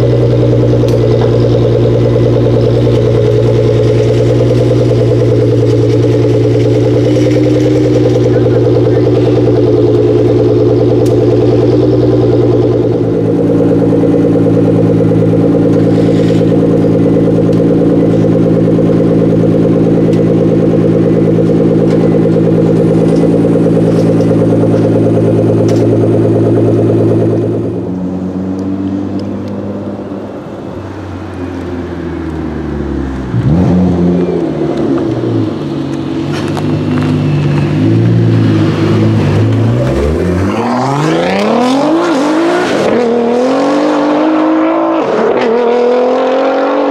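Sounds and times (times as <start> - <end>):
car engine idling: 0.0 - 42.9
car engine revving: 0.0 - 46.9.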